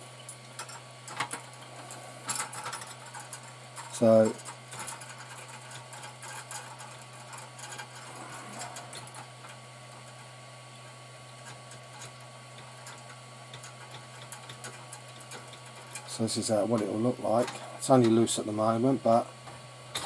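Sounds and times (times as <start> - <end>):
steady low hum: 0.0 - 20.0
small metal parts clicking: 0.6 - 18.2.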